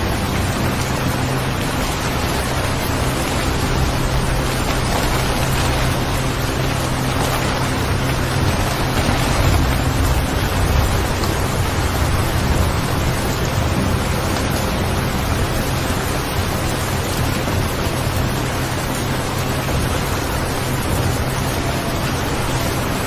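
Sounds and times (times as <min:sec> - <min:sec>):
low rumble: 0:00.0 - 0:22.9
steady rain: 0:00.0 - 0:23.0.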